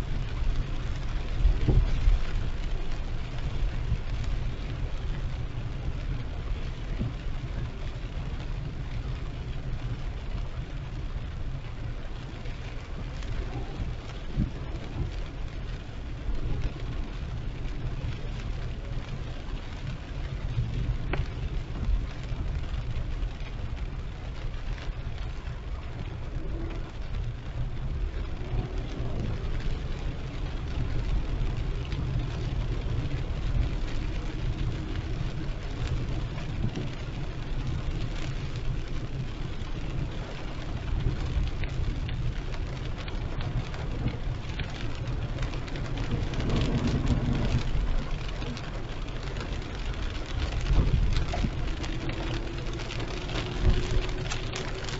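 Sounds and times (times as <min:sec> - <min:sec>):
engine and tyres on wet road: 0:00.0 - 0:54.9
heavy rain on a car: 0:00.0 - 0:54.9.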